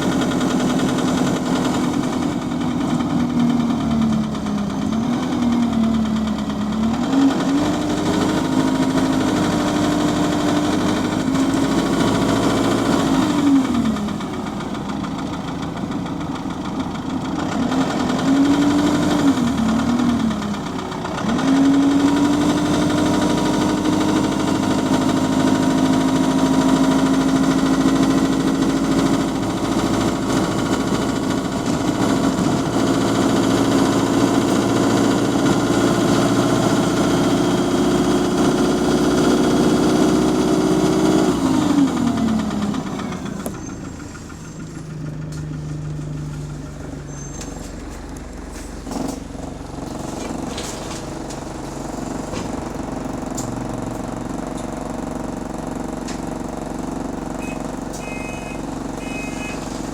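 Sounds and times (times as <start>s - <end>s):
bus engine and driveline: 0.0s - 59.9s
engine knocking: 0.0s - 59.9s.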